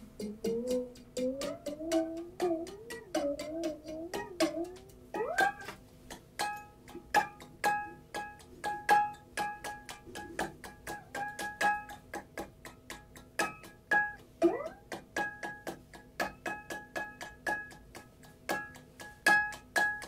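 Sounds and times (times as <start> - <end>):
hand slaps and taps on glass jar: 1.0 - 20.0.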